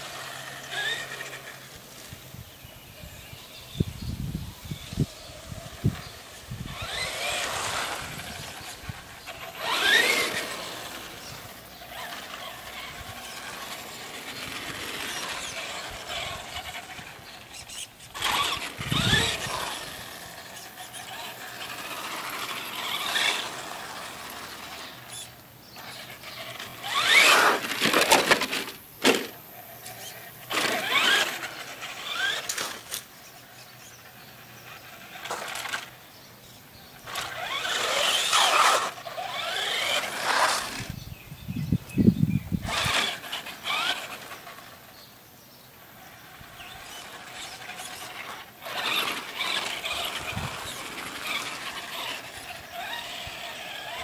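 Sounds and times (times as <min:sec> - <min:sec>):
electric motor whining: 0:00.0 - 0:02.5, 0:03.3 - 0:36.0, 0:36.8 - 0:45.1, 0:46.0 - 0:54.0
tyres scrubbing on asphalt: 0:05.0 - 0:36.0, 0:36.9 - 0:41.0, 0:42.5 - 0:45.1, 0:46.0 - 0:54.0.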